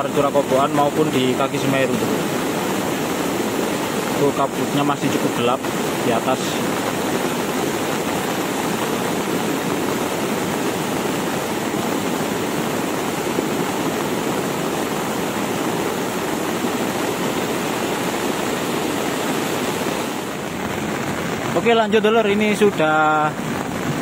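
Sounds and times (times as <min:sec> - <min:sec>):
floodwater rushing: 0:00.0 - 0:24.0
heavy rain falling: 0:00.0 - 0:24.0.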